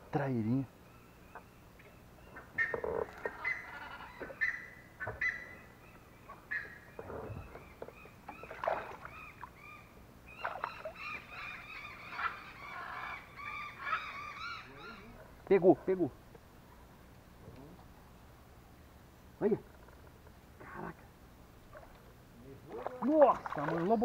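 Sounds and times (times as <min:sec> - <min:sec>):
wild birds calling: 0:00.0 - 0:24.0.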